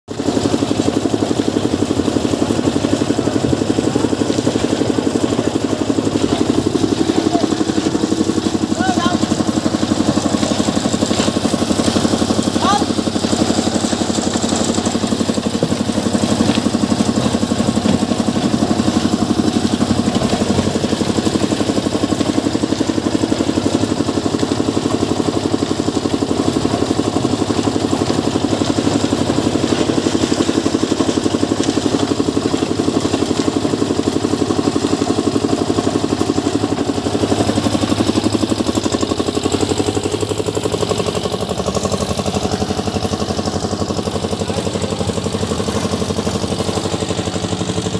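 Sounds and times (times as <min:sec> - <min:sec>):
concrete mixer engine chugging: 0:00.1 - 0:47.9.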